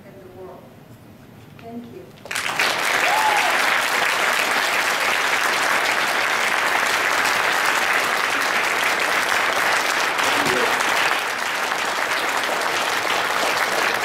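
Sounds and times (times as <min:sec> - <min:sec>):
audience applauding: 0:02.2 - 0:14.0.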